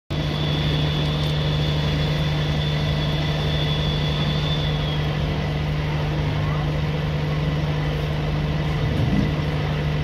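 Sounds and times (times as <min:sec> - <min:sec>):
high steady whine: 0:00.1 - 0:10.0
low mechanical hum: 0:00.1 - 0:10.0.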